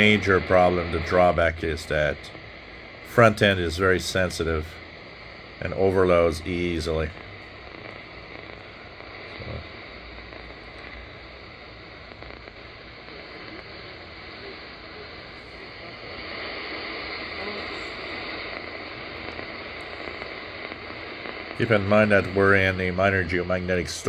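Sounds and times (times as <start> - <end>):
shortwave radio static: 0.0 - 24.0.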